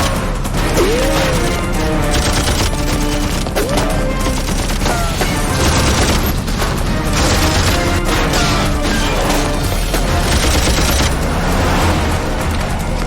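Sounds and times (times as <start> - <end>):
automatic gunfire: 0.0 - 11.2
film music score: 0.0 - 13.0.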